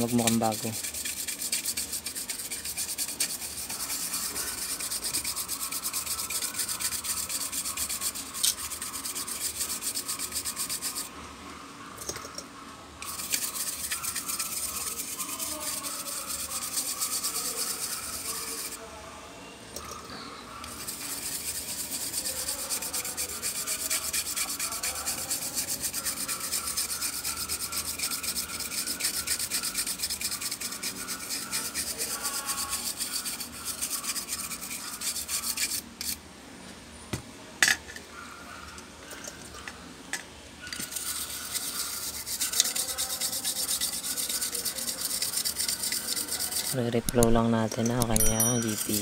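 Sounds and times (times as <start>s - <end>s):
toothbrush scrubbing circuit board: 0.0s - 11.1s, 13.0s - 18.8s, 20.6s - 36.2s, 40.8s - 49.0s.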